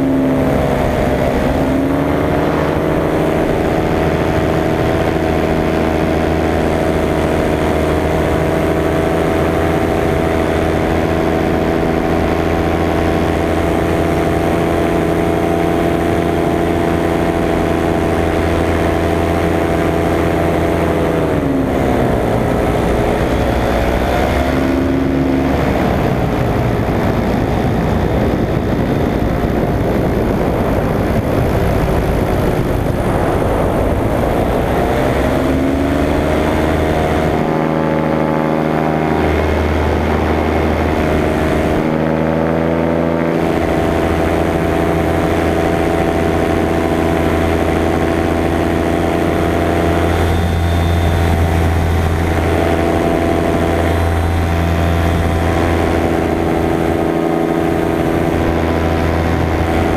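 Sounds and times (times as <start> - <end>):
paramotor engine and propeller: 0.0 - 59.9.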